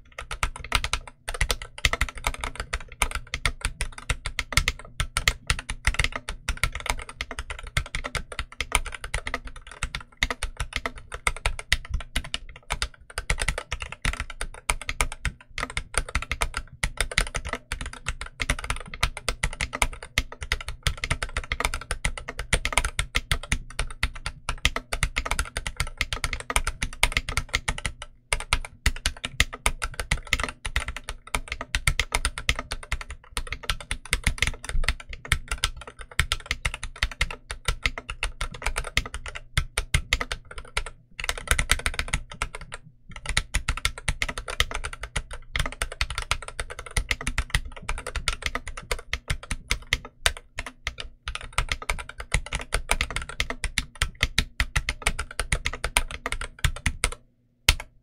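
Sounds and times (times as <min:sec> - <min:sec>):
mechanical keyboard typing: 0:00.0 - 0:58.0.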